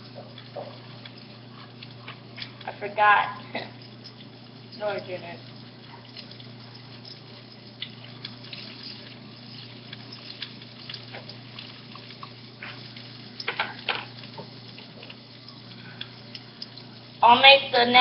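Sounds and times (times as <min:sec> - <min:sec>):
utensils clicking and clinking: 0:00.0 - 0:17.1
steady low hum: 0:00.0 - 0:18.0.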